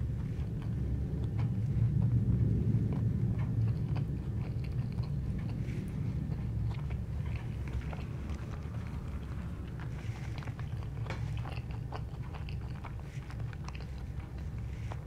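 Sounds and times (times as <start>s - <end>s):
close chewing with mouth clicks: 0.0s - 15.0s
low rumble: 0.0s - 15.0s.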